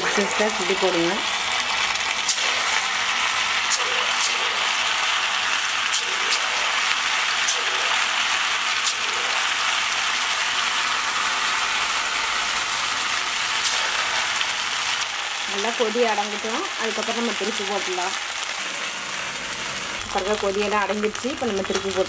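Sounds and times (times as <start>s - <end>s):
batter deep-frying in oil: 0.0s - 22.0s.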